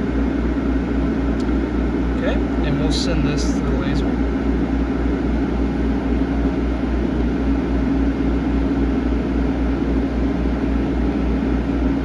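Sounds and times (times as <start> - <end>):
low pulsing hum: 0.0 - 12.0
ventilation machine drone: 0.0 - 12.0.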